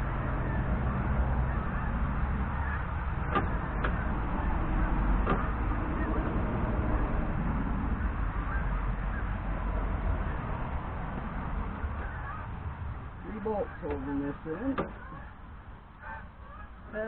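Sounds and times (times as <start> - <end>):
distant geese honking: 0.0 - 17.0
steady low rumble: 0.0 - 17.0.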